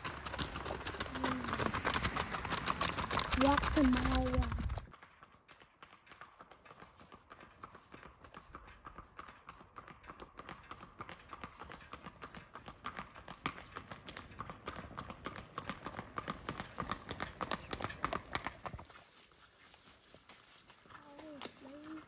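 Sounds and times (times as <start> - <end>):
hooves clip-clopping on asphalt: 0.0 - 22.0.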